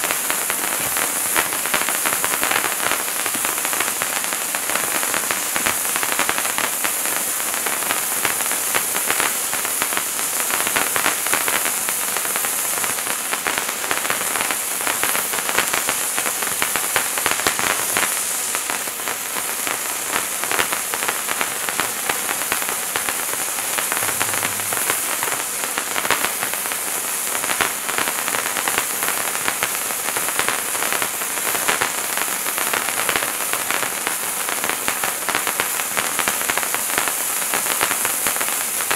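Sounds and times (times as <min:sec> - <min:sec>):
firework fountain hissing and crackling: 0:00.0 - 0:38.9.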